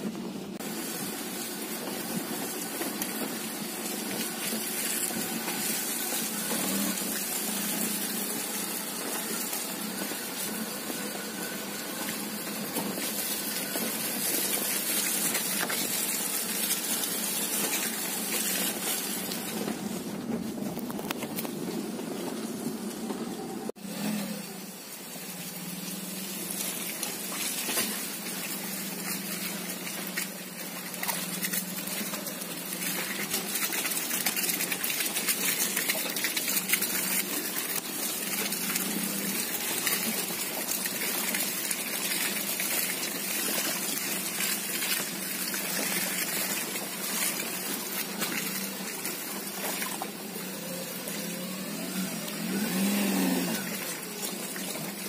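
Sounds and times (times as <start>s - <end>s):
car engine running: 0.0s - 55.0s
tyres slopping through mud: 0.2s - 55.0s.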